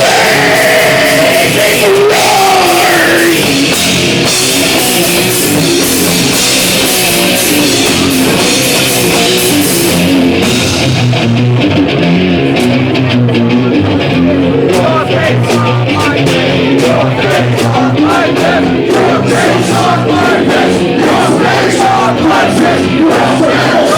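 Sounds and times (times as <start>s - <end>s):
bass guitar: 0.0s - 23.9s
distorted electric guitar: 0.0s - 23.9s
drum kit: 0.0s - 23.9s.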